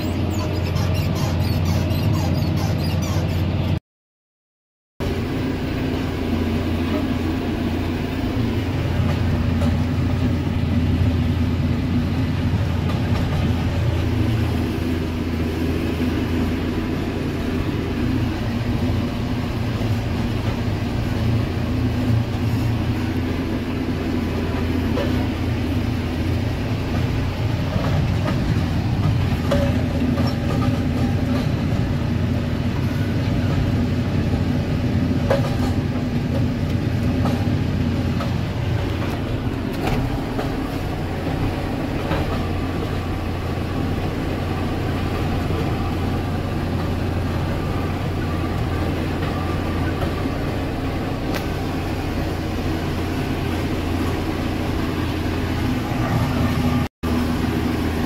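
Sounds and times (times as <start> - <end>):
tractor engine drone: 0.0 - 3.8, 5.0 - 58.0.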